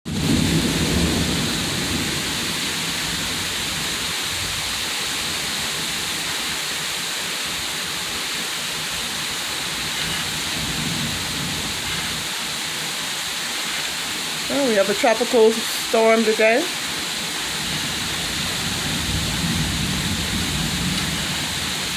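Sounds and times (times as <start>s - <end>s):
heavy rain pouring: 0.1s - 21.9s.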